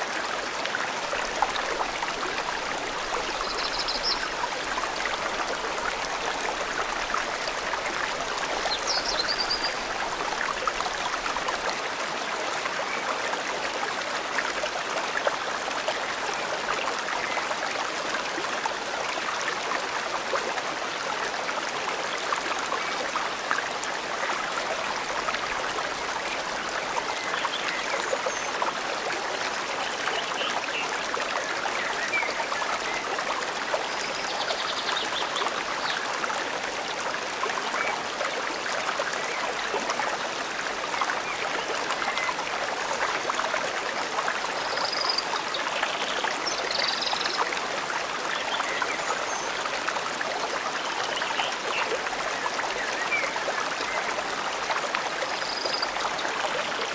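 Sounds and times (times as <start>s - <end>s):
stream trickling: 0.0s - 56.9s.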